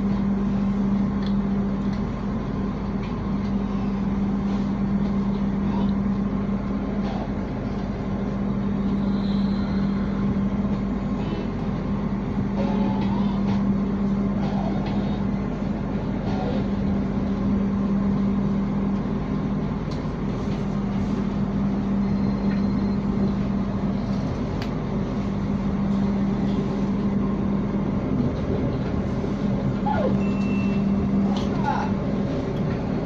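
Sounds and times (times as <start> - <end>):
steady low hum: 0.0 - 33.0
train rumble from inside coach: 0.0 - 33.0.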